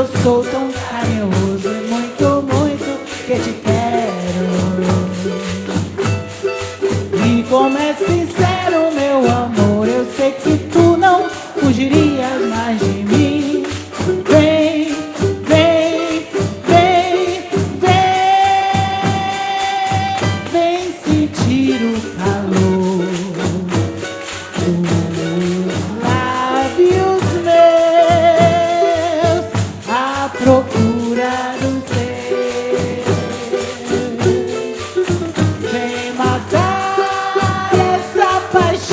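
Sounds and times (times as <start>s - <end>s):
frame drums with jingles: 0.0s - 38.9s
person singing: 0.0s - 38.9s.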